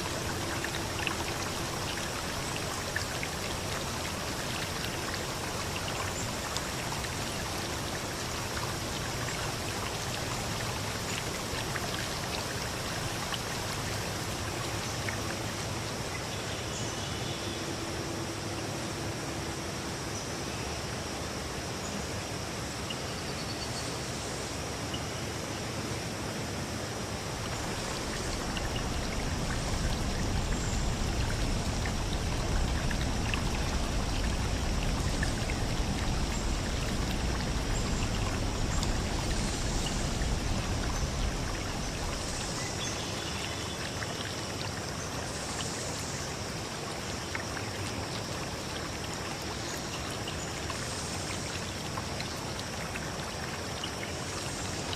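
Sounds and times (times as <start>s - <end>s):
stream rushing over rocks: 0.0s - 22.8s, 24.0s - 54.9s.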